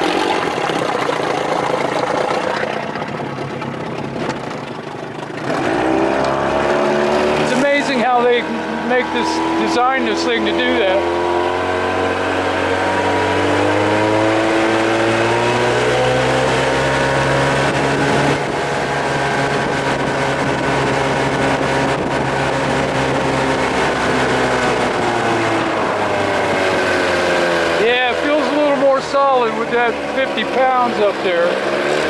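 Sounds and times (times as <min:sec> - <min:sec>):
outboard motor running: 0:00.0 - 0:32.0
wind and water rushing: 0:00.0 - 0:32.0.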